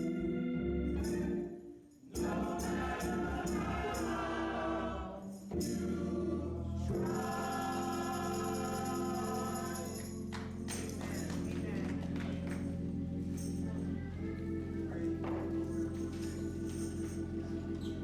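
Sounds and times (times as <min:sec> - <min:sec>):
tambourine: 0:00.0 - 0:14.3, 0:15.2 - 0:18.0
gospel choir singing: 0:00.0 - 0:18.0.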